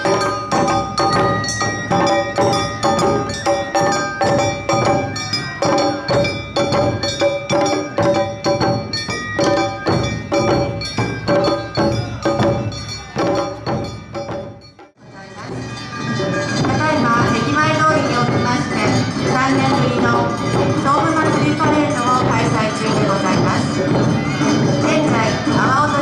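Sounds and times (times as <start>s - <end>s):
drums: 0.0s - 26.0s.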